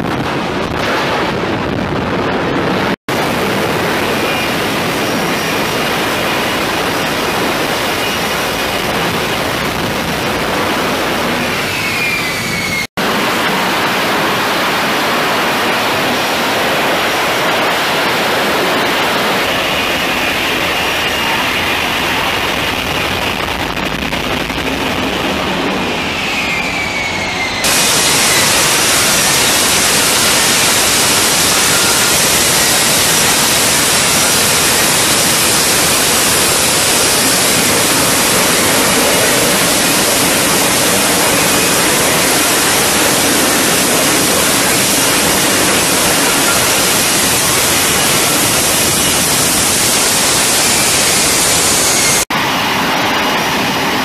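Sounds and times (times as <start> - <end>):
jet engine roaring while hovering: 0.0 - 54.0.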